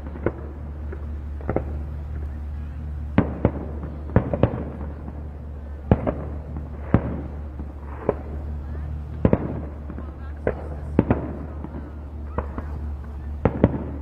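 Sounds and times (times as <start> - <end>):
fireworks bangs: 0.0 - 14.0
steady low hum: 0.0 - 14.0.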